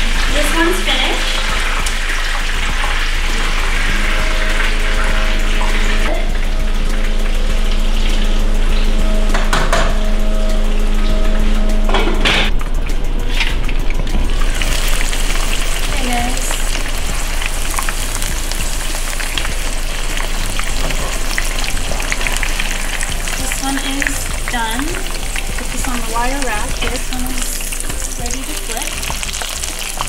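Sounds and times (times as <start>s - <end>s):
chicken frying in oil: 0.0s - 10.0s, 13.3s - 30.0s.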